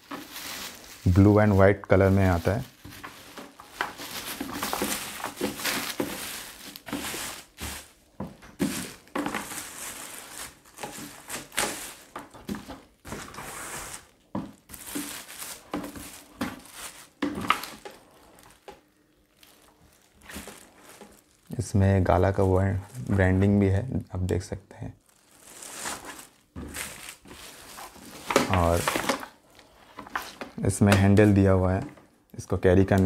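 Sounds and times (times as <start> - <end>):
plastic wrap crinkling: 0.0 - 33.0.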